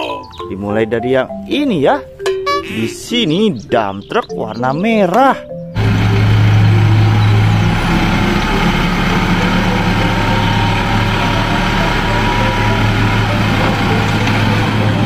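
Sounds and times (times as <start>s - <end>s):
truck engine idling: 0.2s - 15.0s.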